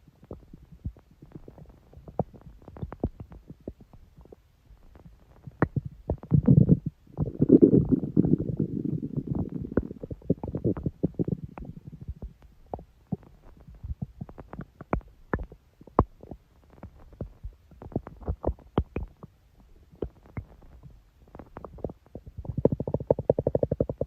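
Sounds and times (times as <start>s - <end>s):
stomach growling: 0.1s - 24.0s.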